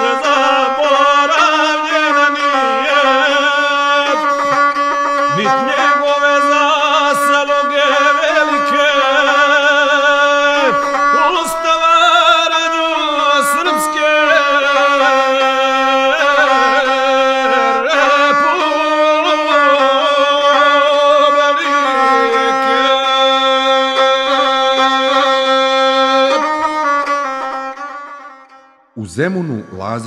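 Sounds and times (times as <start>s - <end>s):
bowed single-string fiddle: 0.0s - 30.0s.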